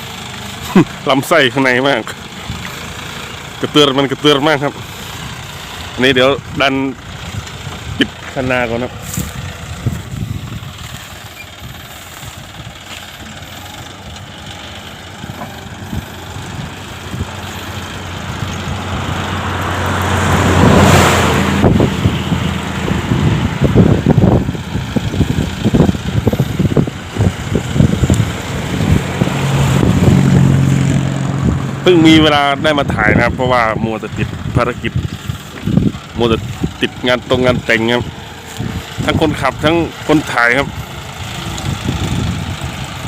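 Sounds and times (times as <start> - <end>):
tractor diesel engine running: 0.0 - 43.0
tractor knocks and clunks: 0.1 - 31.8, 34.2 - 43.0.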